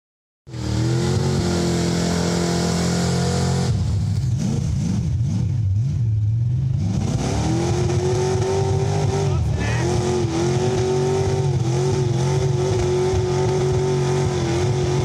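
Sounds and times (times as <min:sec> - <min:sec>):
truck engine revving: 0:00.5 - 0:15.0.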